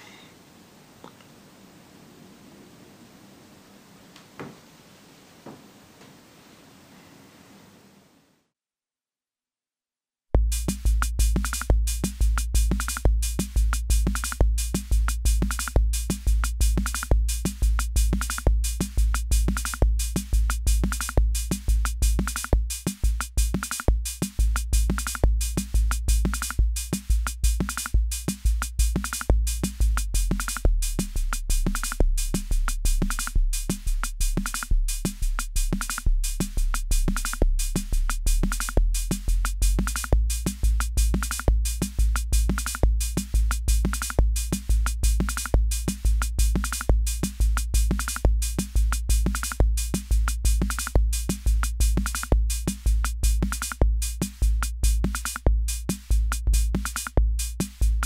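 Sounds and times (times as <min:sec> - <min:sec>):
drum machine kick and hi-hat: 0:10.4 - 0:58.0.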